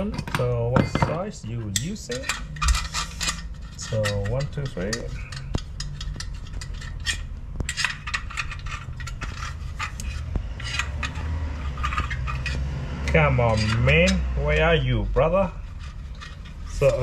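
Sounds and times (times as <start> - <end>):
metal tools clinking and scraping: 0.0 - 17.0.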